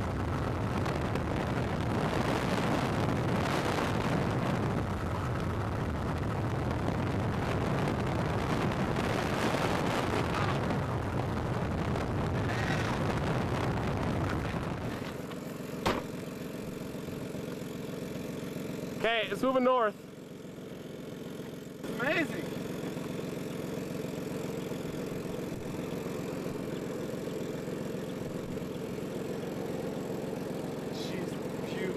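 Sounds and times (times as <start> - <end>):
wind and road noise: 0.0 - 31.9.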